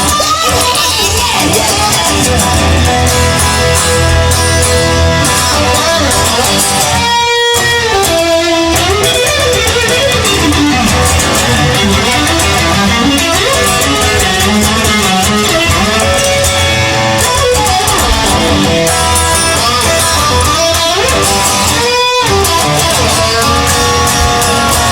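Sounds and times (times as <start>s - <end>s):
blues band playing: 0.0s - 24.9s
electric guitar lead with bent notes: 0.0s - 24.9s.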